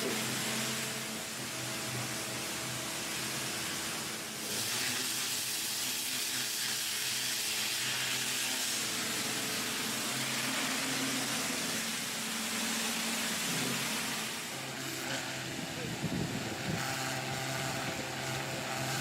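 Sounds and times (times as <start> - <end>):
cleaning tool spraying hiss: 0.0 - 19.0.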